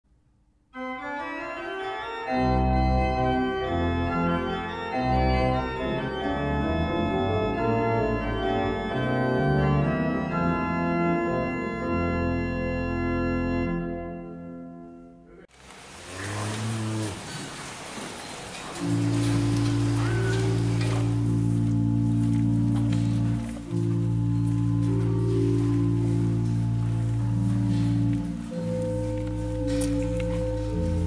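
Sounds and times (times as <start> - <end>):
organ chords: 0.8 - 15.4, 18.4 - 31.0.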